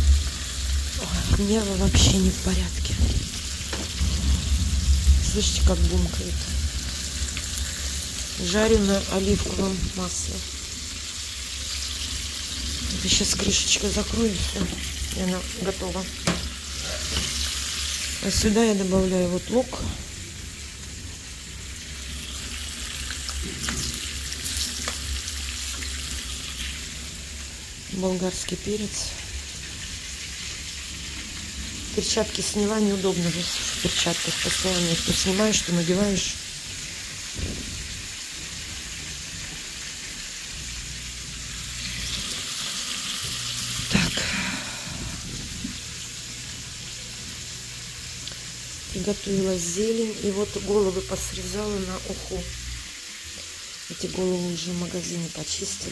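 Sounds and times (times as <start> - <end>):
fish sizzling in a pan: 0.0 - 55.9
onion crackling in hot oil: 0.0 - 55.9.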